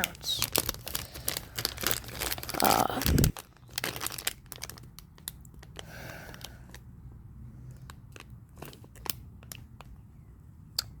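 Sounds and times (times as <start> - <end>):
cards and packaging crinkling: 0.0 - 6.9, 7.6 - 9.9.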